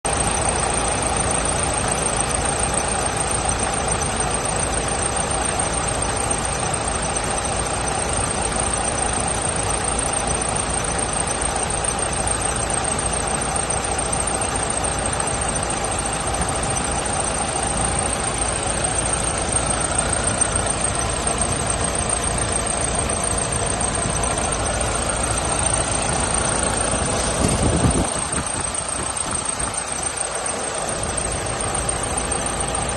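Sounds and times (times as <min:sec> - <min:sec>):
diesel coach engine running: 0:00.0 - 0:32.9.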